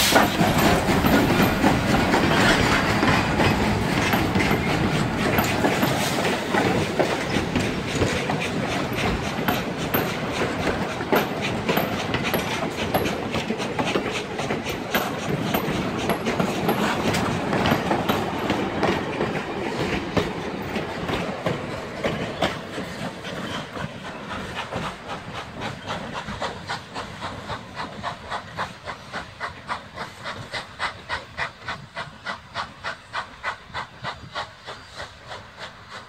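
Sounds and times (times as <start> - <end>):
train wheels clickety-clack: 0.0 - 36.0.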